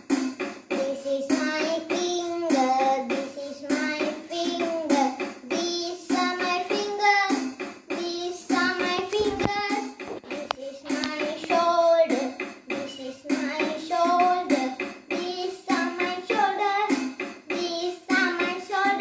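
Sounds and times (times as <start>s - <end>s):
steady drum beat: 0.0s - 19.0s
child singing: 0.7s - 19.0s.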